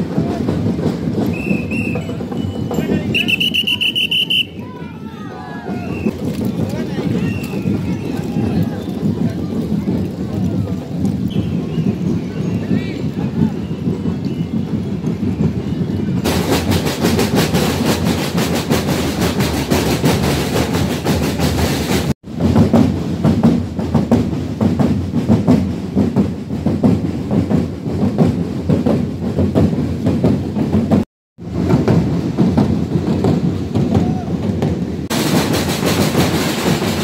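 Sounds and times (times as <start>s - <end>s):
parade drums and percussion: 0.0s - 37.0s.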